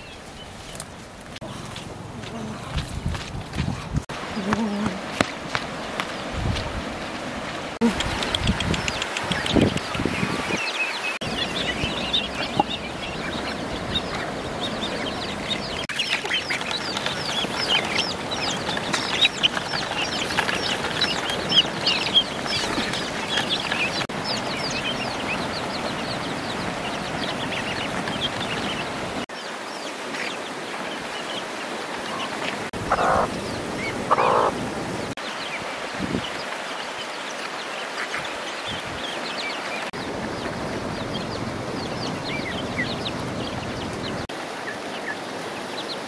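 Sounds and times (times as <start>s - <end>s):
ducklings and chicks peeping: 7.8s - 31.4s, 32.0s - 46.0s.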